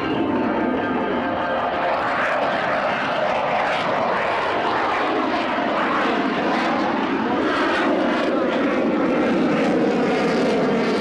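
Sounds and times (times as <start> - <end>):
aircraft engine rush: 0.0 - 11.0.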